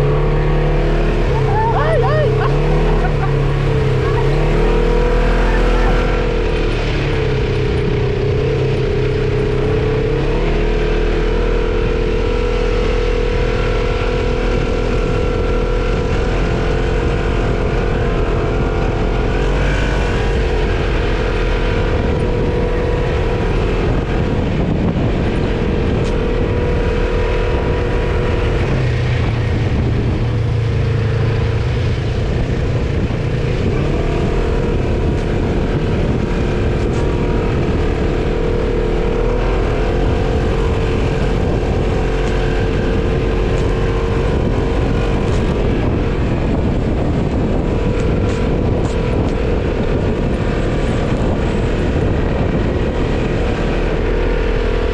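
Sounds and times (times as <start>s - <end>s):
quad bike engine running: 0.0s - 54.9s.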